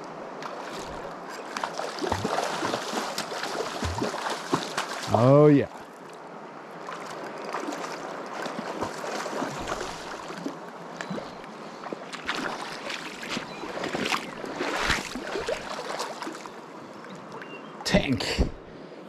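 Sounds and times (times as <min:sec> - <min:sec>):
river water running over stones: 0:00.0 - 0:17.3.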